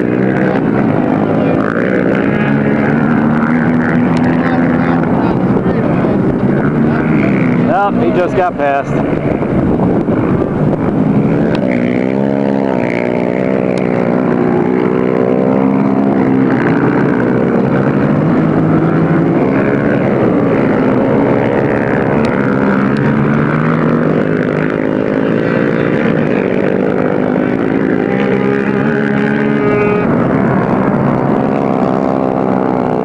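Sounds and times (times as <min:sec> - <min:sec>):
quad engine revving: 0:00.0 - 0:33.0.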